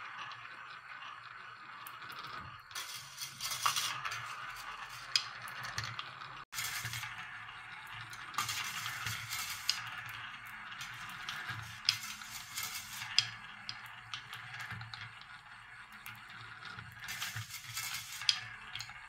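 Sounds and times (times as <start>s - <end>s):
steel balls rolling in wood: 0.0s - 19.0s.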